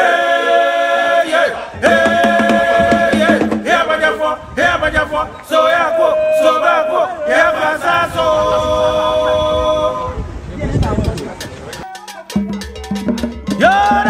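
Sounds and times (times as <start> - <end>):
voices singing unaccompanied: 0.0 - 10.7, 11.7 - 14.0.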